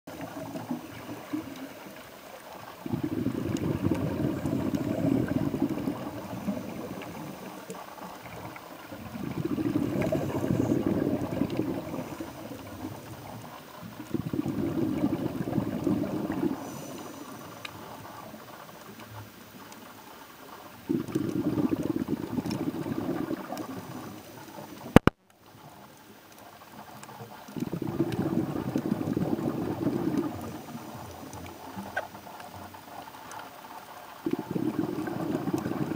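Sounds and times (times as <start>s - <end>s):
underwater breath bubbles: 0.1s - 19.7s, 20.5s - 25.1s, 27.2s - 33.2s, 33.9s - 35.9s.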